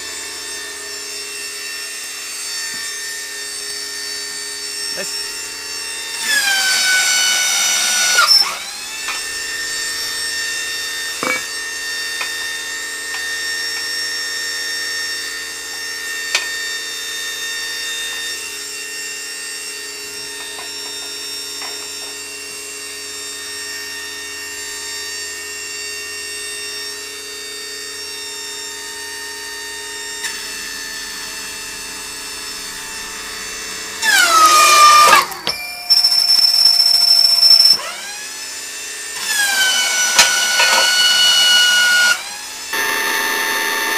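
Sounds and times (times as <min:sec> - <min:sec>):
hydraulic pump motor whining: 0:00.0 - 0:43.9.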